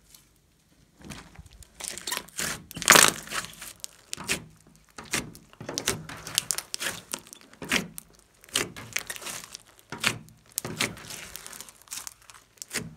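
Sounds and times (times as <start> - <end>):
slime crackling and popping: 1.4 - 12.9.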